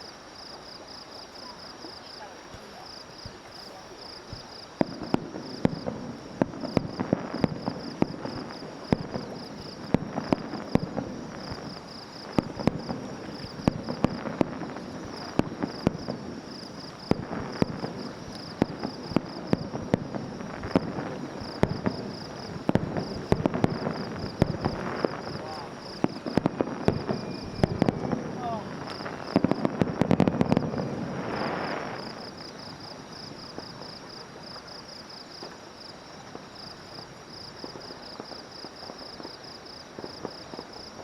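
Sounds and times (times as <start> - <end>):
fireworks bangs and crackling: 0.0 - 41.0
insect chirping: 0.0 - 41.0.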